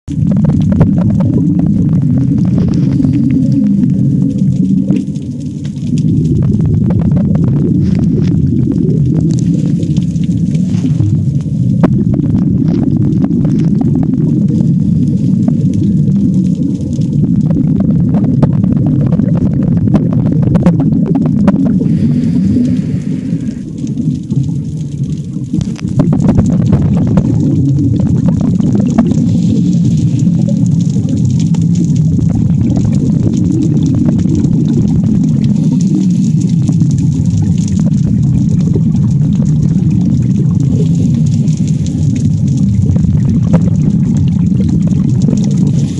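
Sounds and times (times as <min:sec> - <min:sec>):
muffled underwater rumble: 0:00.0 - 0:45.9.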